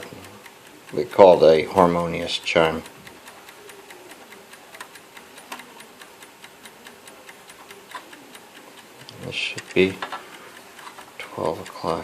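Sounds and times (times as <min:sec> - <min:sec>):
mantel clock ticking: 0:00.0 - 0:12.0.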